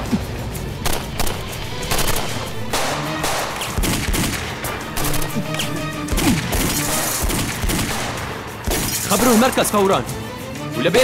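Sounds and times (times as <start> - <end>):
background music with held tones: 0.0 - 11.0
rapid gunshots: 0.8 - 9.7.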